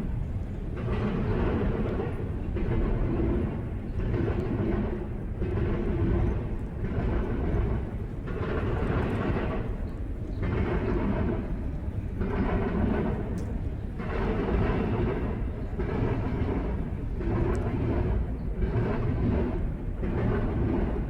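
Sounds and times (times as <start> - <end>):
freight train rail rumble: 0.0 - 21.0.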